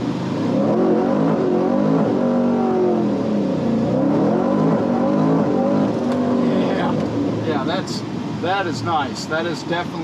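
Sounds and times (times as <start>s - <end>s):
car engine accelerating hard: 0.0s - 9.6s.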